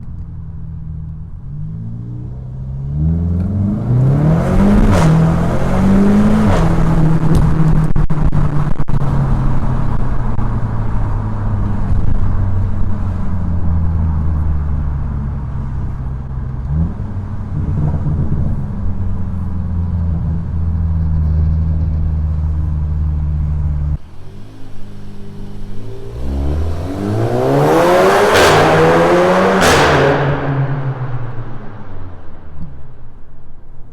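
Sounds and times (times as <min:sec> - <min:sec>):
car engine accelerating hard: 0:01.4 - 0:32.3.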